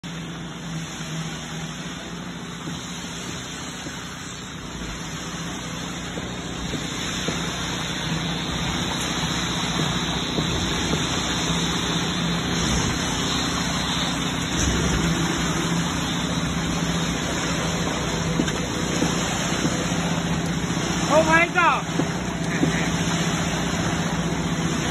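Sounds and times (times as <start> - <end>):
concrete pump drone: 0.0 - 24.9
steady low hum: 0.0 - 24.9.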